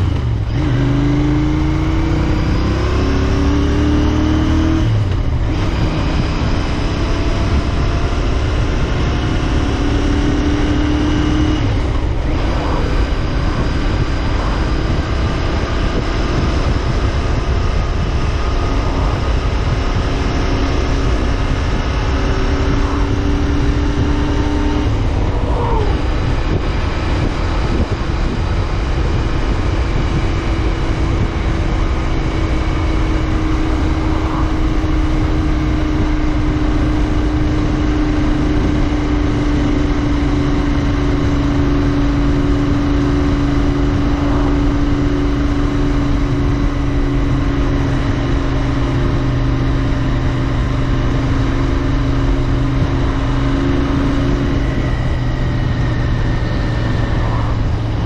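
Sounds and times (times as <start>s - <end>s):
motorcycle engine cruising: 0.0s - 58.0s
road noise: 0.0s - 58.0s
wind noise: 0.0s - 58.0s.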